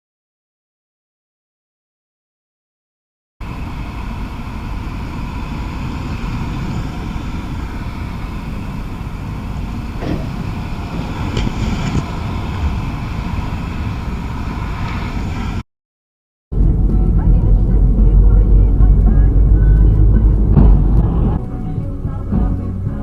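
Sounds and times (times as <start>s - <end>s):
car driving engine and tyres: 3.4s - 15.6s, 16.5s - 23.0s.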